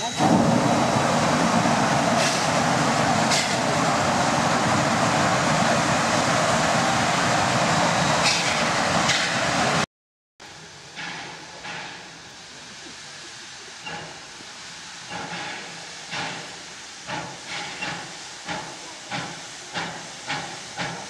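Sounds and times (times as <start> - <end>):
steam hissing from a valve: 0.0 - 9.8, 10.6 - 21.0.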